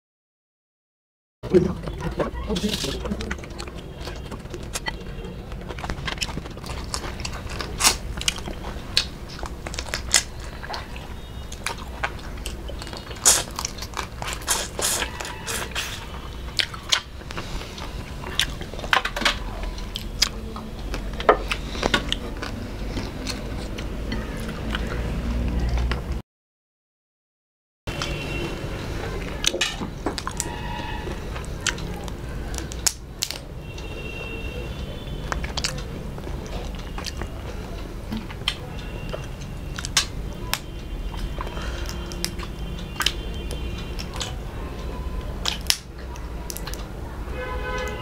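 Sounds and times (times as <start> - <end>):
chewing and crunching: 1.5 - 26.2, 27.9 - 47.2.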